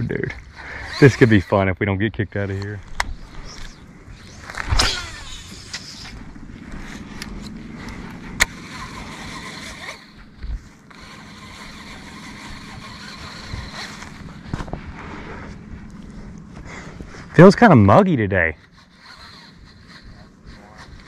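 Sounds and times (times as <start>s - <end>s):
fishing reel whirring: 0.4s - 1.7s, 2.8s - 16.0s, 18.5s - 21.0s.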